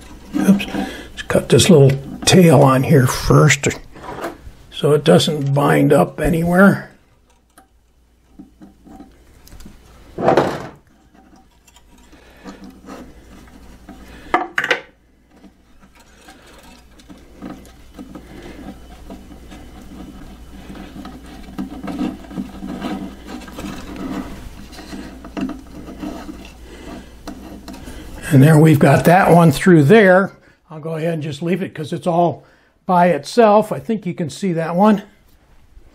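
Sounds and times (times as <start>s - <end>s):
hands rubbing and scraping wire: 0.0s - 10.2s, 10.8s - 30.0s.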